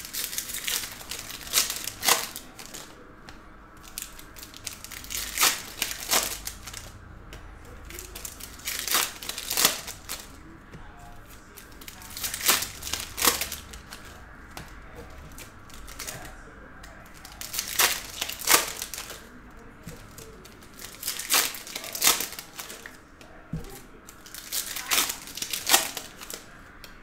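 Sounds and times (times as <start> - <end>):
cards and foil packs crinkling: 0.0 - 3.0, 3.7 - 7.0, 7.6 - 26.7.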